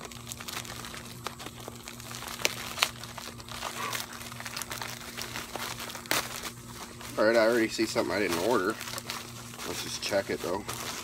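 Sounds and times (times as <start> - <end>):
plastic envelope crinkling and tearing: 0.0 - 11.0.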